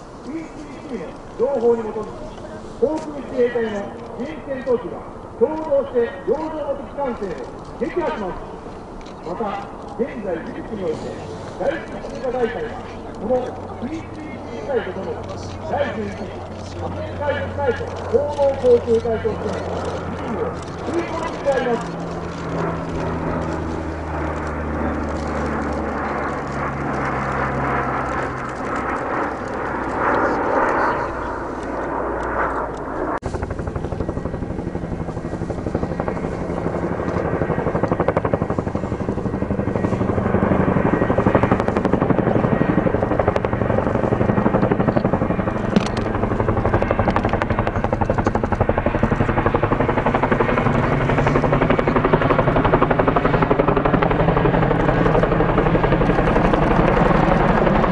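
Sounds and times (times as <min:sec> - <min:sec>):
helicopter rotor beating: 0:00.0 - 0:57.9.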